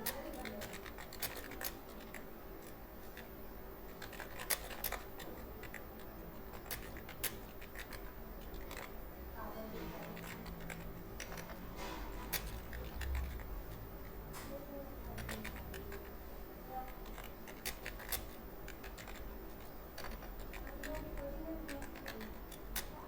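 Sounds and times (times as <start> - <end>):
keyboard keys clicking: 0.0 - 9.0, 9.9 - 23.0.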